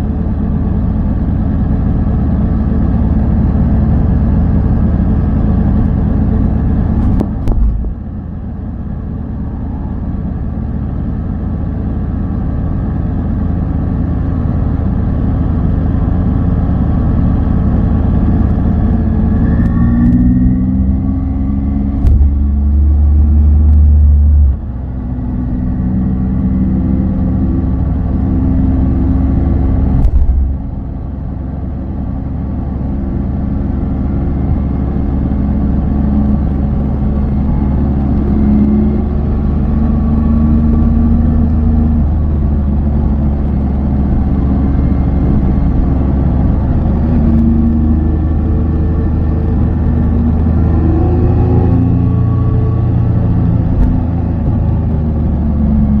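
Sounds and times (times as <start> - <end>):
motorcycle engine running: 0.0 - 23.0, 26.8 - 56.0.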